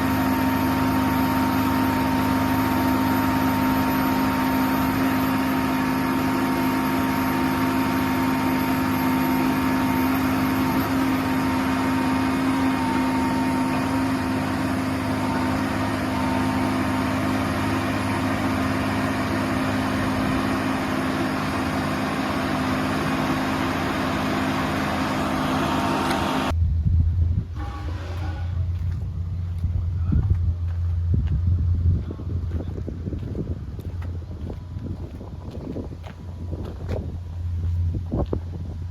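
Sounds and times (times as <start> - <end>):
thin steady whine: 0.0 - 38.8
engine drone: 0.0 - 38.9.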